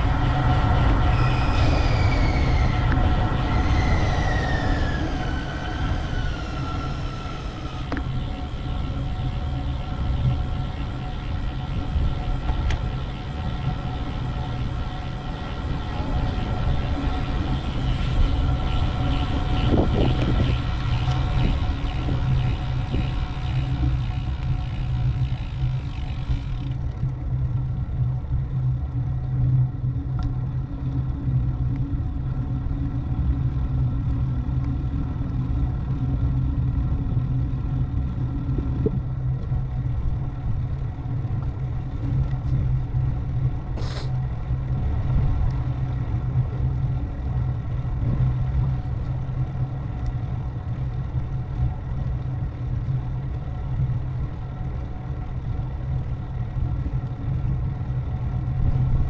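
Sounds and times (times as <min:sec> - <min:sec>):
road and wind noise: 0:00.0 - 0:59.0
vehicle engine cruising: 0:00.0 - 0:59.0.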